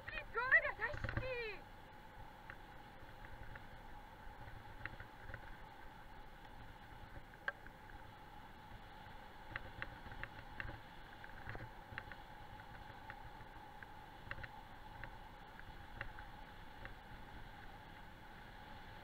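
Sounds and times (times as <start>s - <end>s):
small clicks and ticks: 0.0s - 19.0s.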